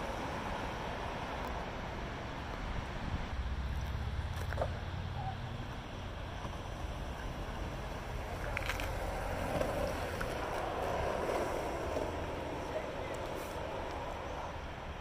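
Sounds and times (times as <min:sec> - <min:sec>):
skateboard wheels rolling on asphalt: 0:00.0 - 0:15.0.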